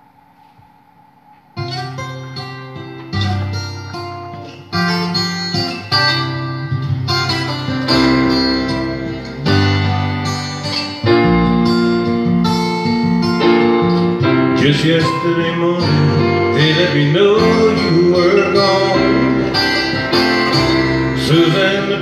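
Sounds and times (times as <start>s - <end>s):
acoustic guitar music: 1.6s - 22.0s.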